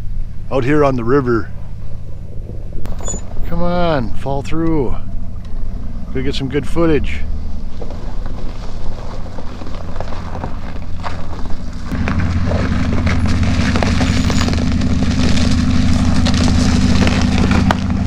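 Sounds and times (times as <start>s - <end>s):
pickup truck engine humming: 0.0s - 18.0s.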